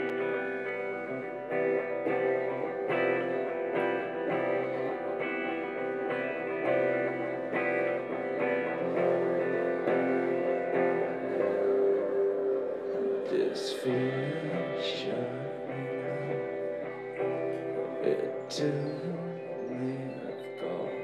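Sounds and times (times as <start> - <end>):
electric guitar strumming chords: 0.0 - 21.0.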